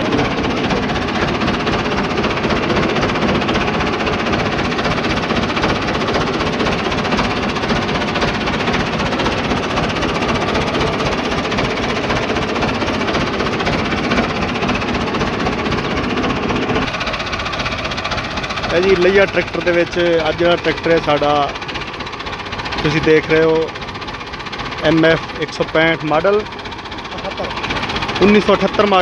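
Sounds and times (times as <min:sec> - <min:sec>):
tractor engine knocking clatter: 0:00.0 - 0:29.0.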